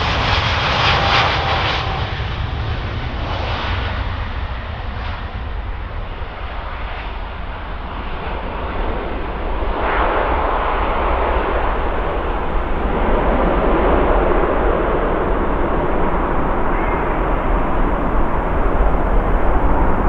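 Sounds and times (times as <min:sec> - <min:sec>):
jet engines roaring at takeoff: 0:00.0 - 0:20.0.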